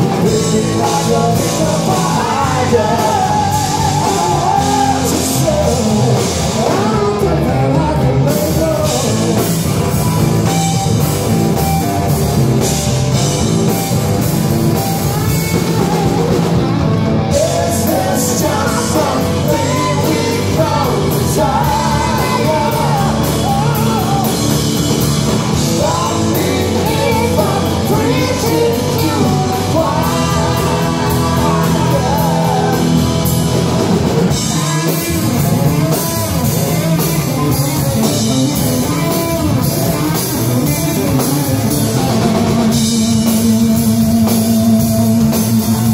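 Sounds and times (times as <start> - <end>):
person singing: 0.0 - 10.6, 17.3 - 45.9
drum kit: 0.0 - 45.9
electric bass: 0.0 - 45.9
electric guitar: 0.0 - 45.9.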